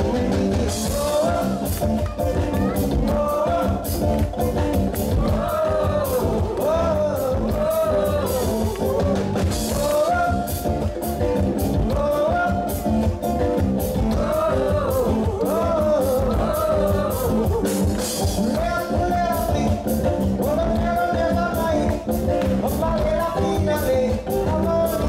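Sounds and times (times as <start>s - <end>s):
voices singing: 0.0s - 13.1s, 13.8s - 25.0s
acoustic guitar: 0.0s - 25.0s
drum kit: 0.0s - 25.0s
electric bass: 0.0s - 25.0s.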